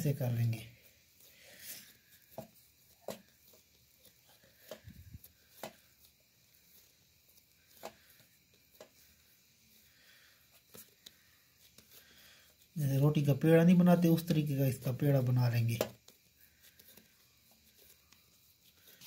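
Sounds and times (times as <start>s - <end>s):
hands rounding pizza dough: 0.0s - 19.0s.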